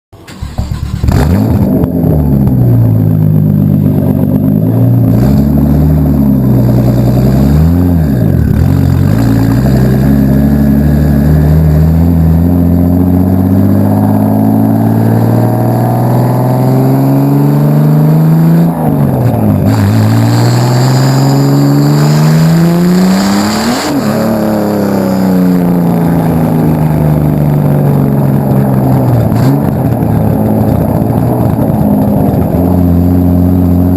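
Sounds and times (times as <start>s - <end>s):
car engine revving: 0.3s - 33.9s.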